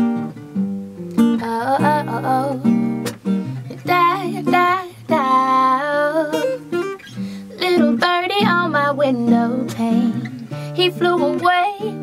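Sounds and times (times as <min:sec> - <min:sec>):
strummed acoustic guitar: 0:00.0 - 0:12.0
woman singing: 0:01.2 - 0:12.0.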